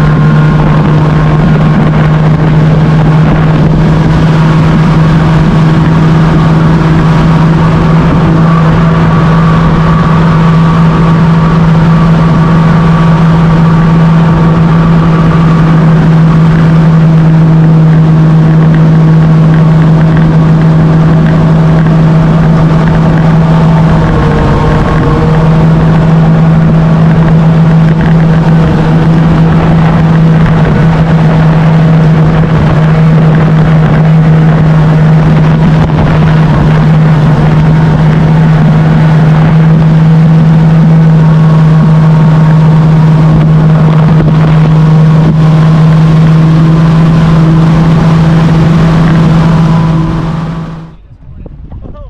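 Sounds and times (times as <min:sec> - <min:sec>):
outboard motor running: 0:00.0 - 0:51.2
wind on microphone: 0:00.0 - 0:52.0.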